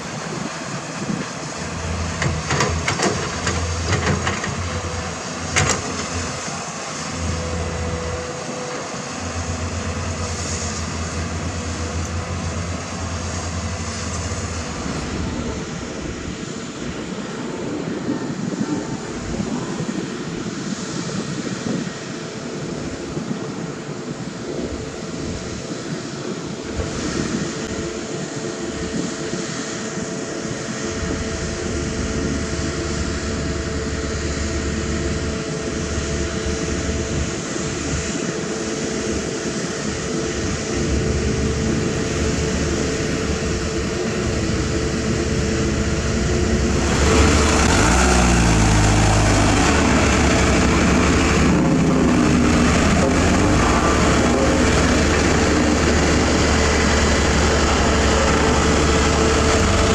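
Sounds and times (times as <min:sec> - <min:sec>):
dump truck engine driving: 0:00.0 - 0:20.6, 0:26.5 - 0:59.9
construction machinery diesel engines: 0:00.0 - 0:59.9.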